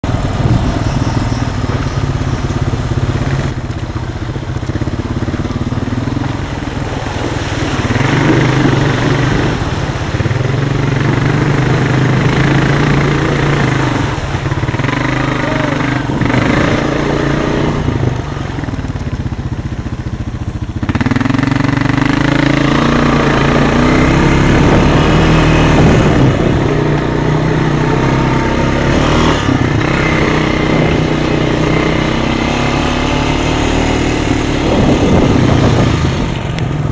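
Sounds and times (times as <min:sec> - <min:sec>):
quad bike engine revving: 0:00.0 - 0:36.9.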